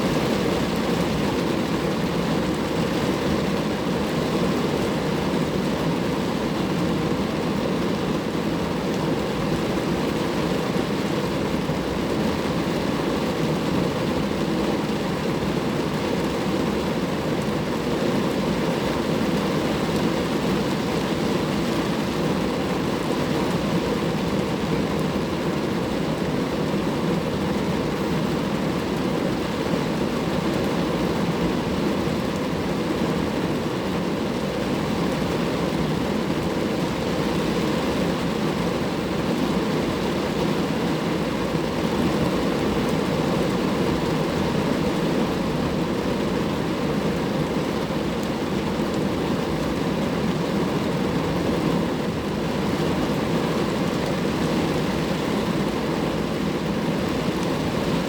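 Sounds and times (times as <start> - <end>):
rain falling on a car: 0.0 - 58.0.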